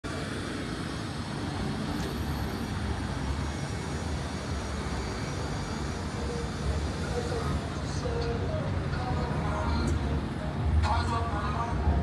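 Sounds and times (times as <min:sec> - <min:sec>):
passing road traffic rumble: 0:00.1 - 0:12.0.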